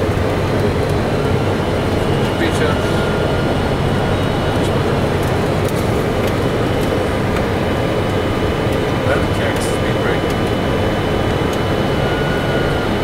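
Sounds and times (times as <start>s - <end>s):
aircraft engines rumbling: 0.0s - 13.0s.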